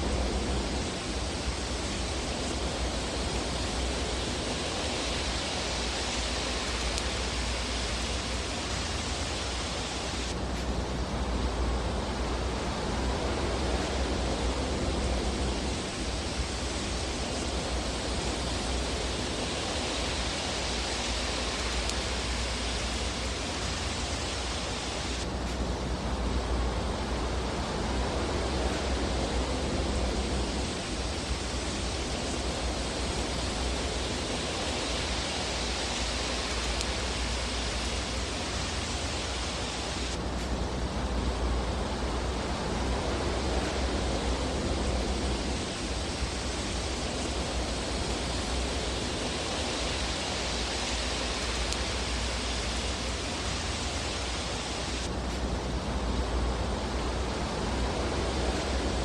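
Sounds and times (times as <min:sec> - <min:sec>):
fireplace fire hissing: 0:00.0 - 0:59.0.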